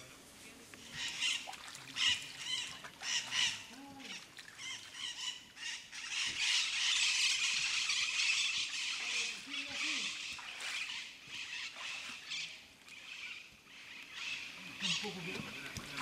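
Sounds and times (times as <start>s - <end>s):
birds squawking: 0.8s - 16.0s.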